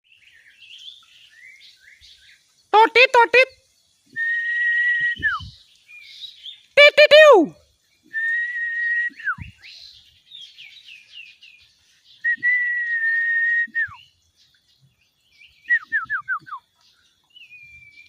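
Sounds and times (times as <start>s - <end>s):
bird whistled song: 0.1s - 2.5s, 4.0s - 18.0s.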